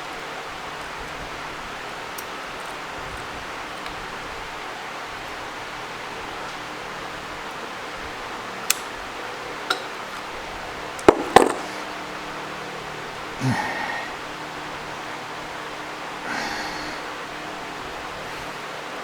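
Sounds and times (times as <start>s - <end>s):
room hiss: 0.0s - 19.0s.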